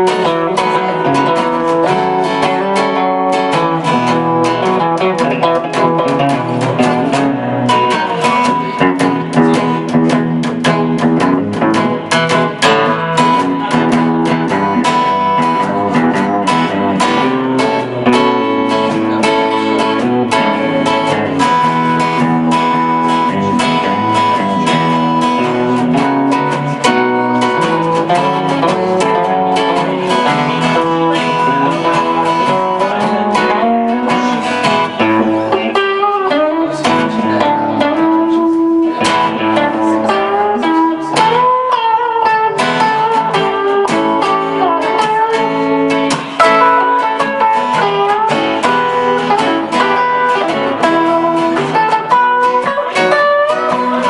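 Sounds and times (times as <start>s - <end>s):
acoustic guitar strumming: 0.0s - 54.0s
electric guitar playing: 0.0s - 54.0s.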